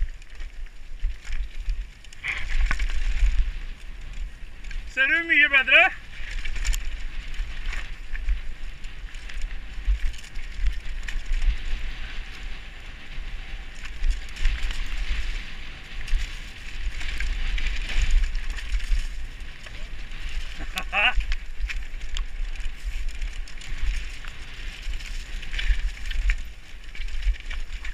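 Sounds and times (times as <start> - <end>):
bike rattling and clacking: 0.0 - 27.9
bike tyres rumbling on dirt: 0.0 - 27.9
wind buffeting microphone: 0.0 - 27.9.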